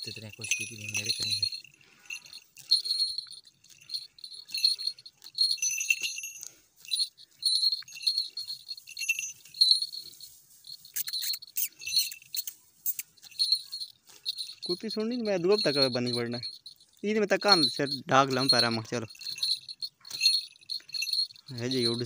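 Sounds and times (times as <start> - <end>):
small bell jingling: 0.0 - 22.0.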